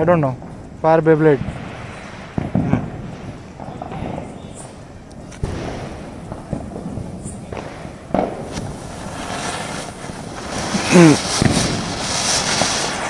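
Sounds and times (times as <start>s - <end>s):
ground spinner firework hissing: 0.0s - 13.0s
sharp crack: 0.0s - 13.0s.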